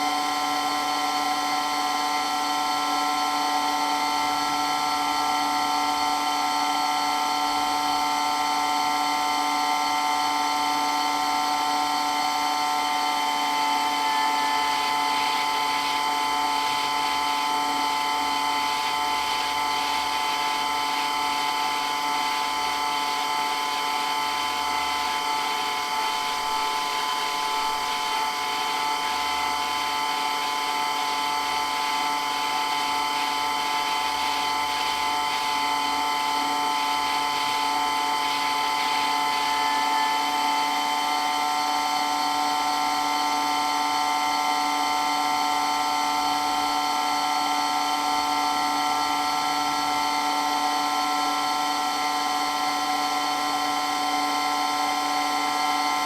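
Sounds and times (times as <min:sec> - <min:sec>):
electric water pump whining: 0:00.0 - 0:56.0.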